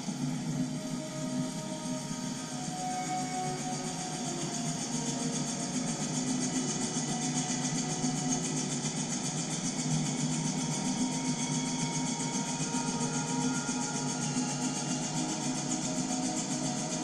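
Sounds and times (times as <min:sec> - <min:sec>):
film soundtrack on television: 0:00.0 - 0:17.0.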